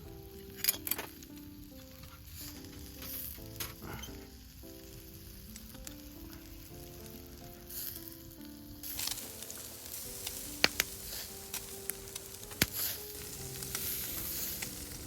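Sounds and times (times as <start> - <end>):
background music: 0.0 - 15.0
food sizzling on a grill: 0.0 - 15.0.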